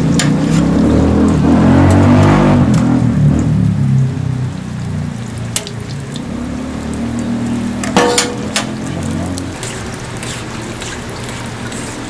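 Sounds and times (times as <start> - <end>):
pancakes sizzling in oil: 0.0 - 12.0.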